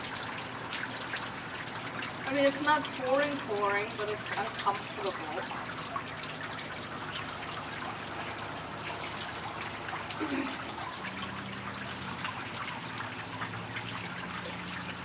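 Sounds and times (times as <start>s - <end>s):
steady rain falling: 0.0s - 15.0s
water trickling and dripping: 0.0s - 15.0s.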